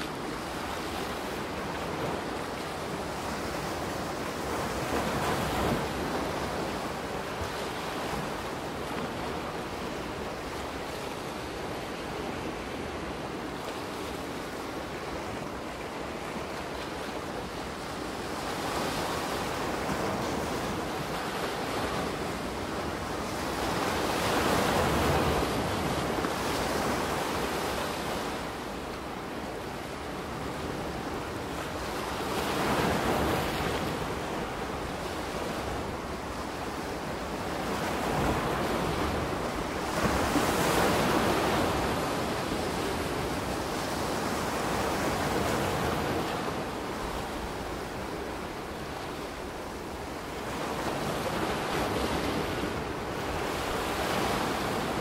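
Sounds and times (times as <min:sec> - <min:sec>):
ocean waves washing onto beach: 0:00.0 - 0:55.0.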